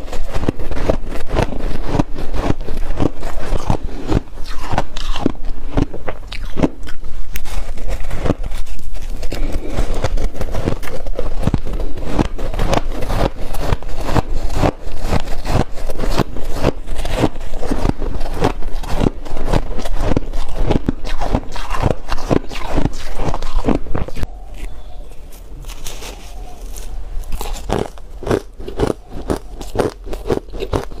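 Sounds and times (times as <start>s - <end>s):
chewing crunchy ice: 0.0s - 31.0s.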